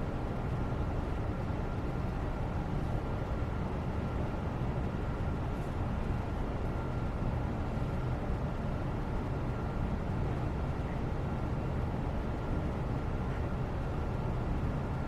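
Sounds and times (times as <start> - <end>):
faint steady tone: 0.0 - 15.0.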